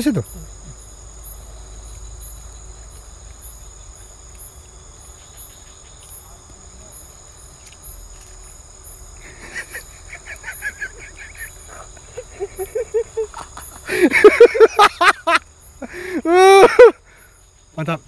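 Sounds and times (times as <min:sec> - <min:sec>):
crickets chirping: 0:00.0 - 0:18.0
short pulsed insect calls: 0:00.0 - 0:18.0.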